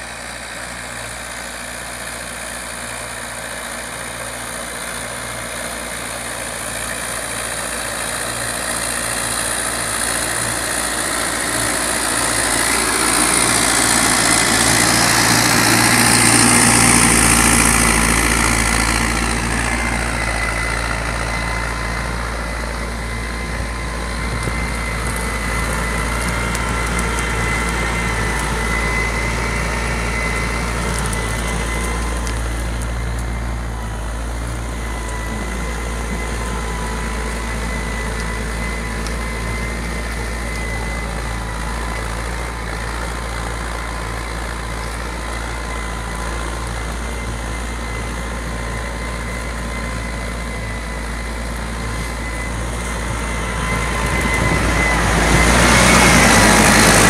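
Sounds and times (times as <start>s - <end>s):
tractor diesel engine under load: 0.0s - 57.0s
steady whine: 5.6s - 57.0s.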